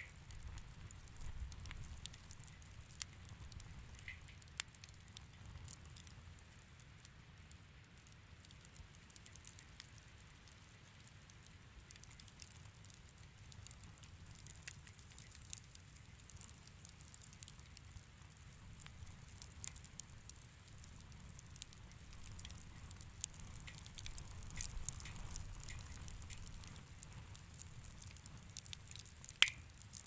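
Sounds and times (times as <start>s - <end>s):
low rumble of flames: 0.0s - 30.0s
wood fire crackling: 0.0s - 30.0s.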